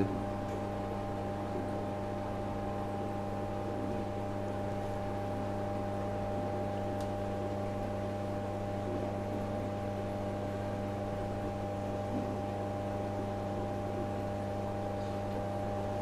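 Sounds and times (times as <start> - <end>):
aquarium air pump humming: 0.0 - 16.0
sponge filter bubbling: 0.0 - 16.0.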